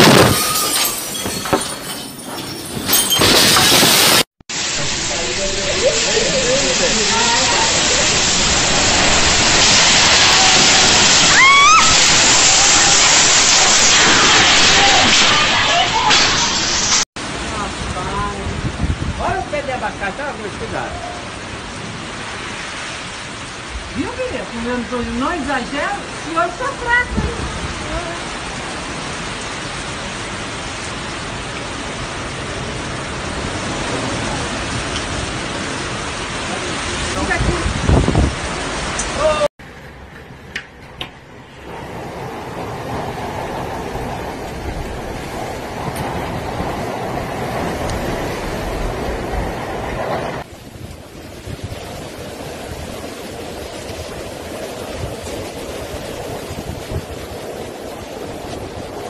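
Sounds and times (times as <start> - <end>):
gusting wind: 0.0 - 59.0
torrential rain: 0.0 - 59.0.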